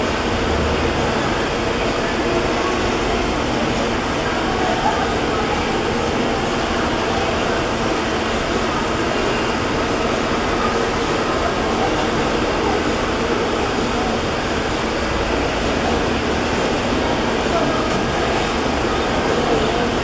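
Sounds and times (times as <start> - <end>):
crowd din: 0.0 - 20.0.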